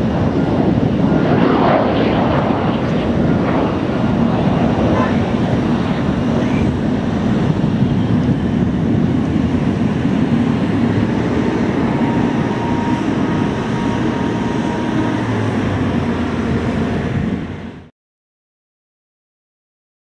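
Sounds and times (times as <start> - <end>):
jet engines idling: 0.0 - 17.9.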